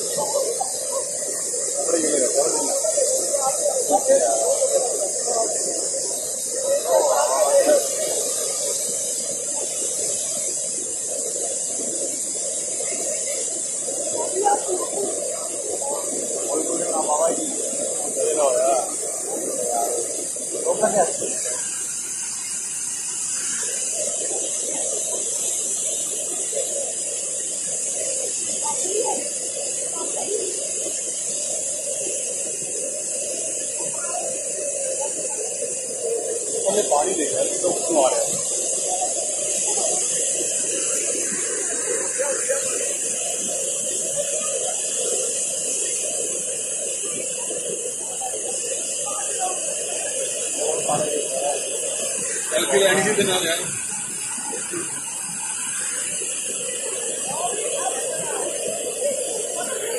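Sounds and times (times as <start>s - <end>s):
rushing roar of falling water: 0.0s - 59.9s.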